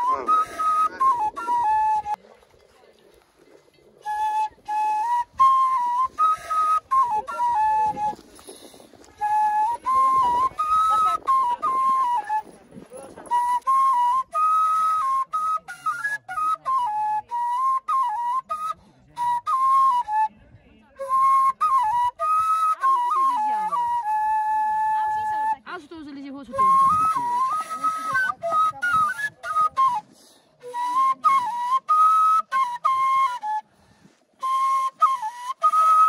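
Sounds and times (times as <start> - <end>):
flute melody: 0.0 - 2.2, 4.0 - 36.0.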